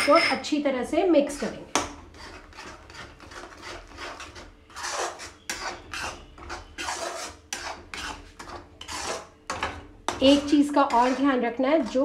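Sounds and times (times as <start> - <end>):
metal spatula scraping pan: 0.0 - 0.4, 1.3 - 12.0.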